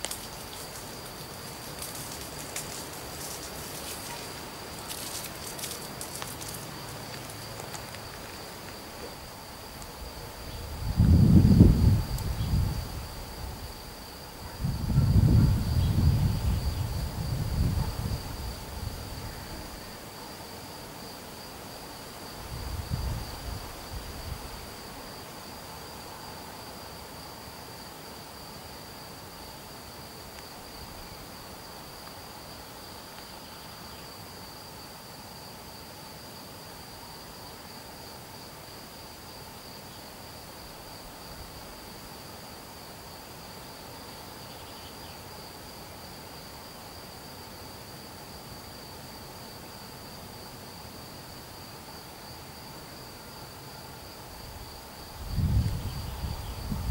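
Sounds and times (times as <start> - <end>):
cricket trilling: 0.0 - 56.9.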